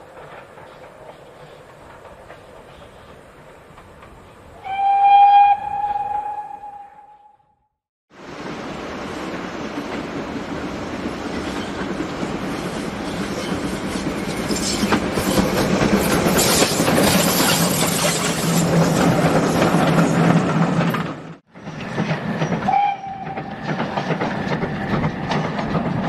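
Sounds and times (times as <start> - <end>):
wheels clicking over rail joints: 0.0 - 4.8, 9.3 - 26.0
steam locomotive passing: 0.0 - 7.3, 8.1 - 26.0.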